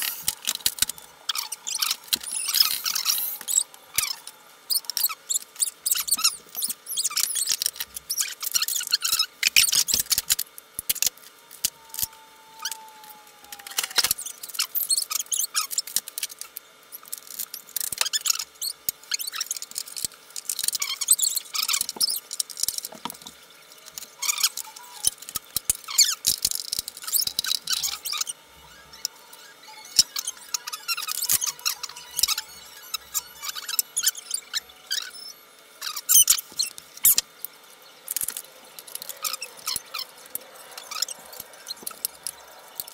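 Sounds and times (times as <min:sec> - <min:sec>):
plastic parts squeaking: 0:00.0 - 0:42.9.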